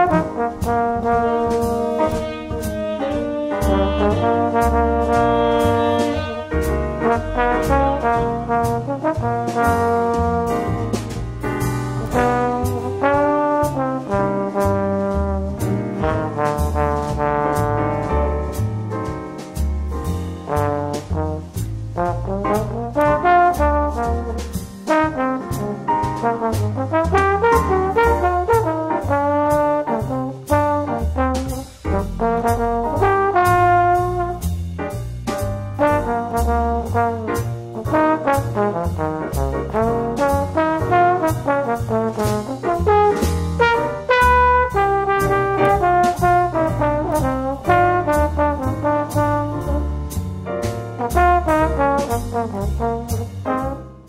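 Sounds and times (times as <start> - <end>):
melodic music with bass and beat: 0.2 - 54.0.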